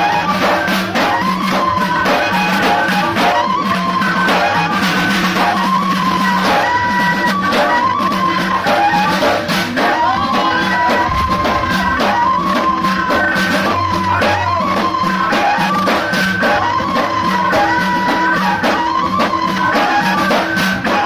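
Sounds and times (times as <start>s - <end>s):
frame drums beating: 0.0s - 21.0s
reed flute melody: 0.0s - 21.0s.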